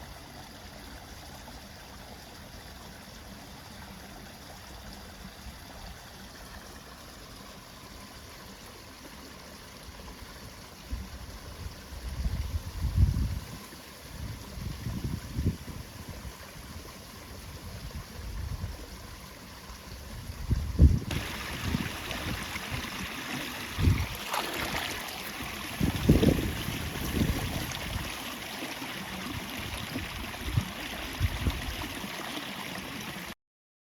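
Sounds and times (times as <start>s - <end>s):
water trickling into pond: 0.0s - 33.4s.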